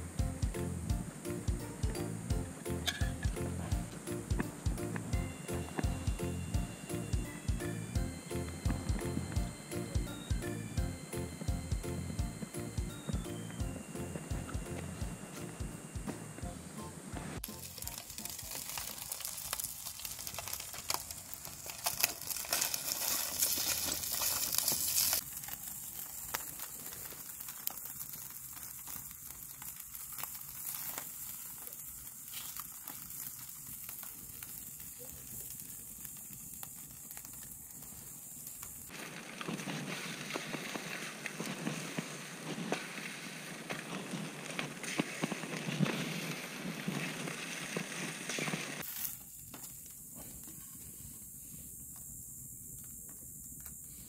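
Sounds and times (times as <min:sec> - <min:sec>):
wood fire crackling and popping: 0:00.0 - 0:50.6.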